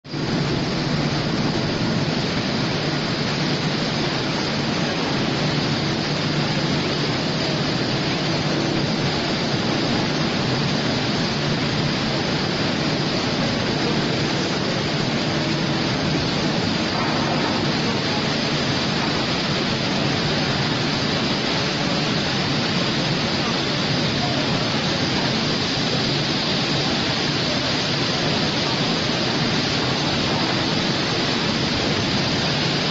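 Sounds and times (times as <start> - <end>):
industrial machinery roar: 0.0 - 32.9.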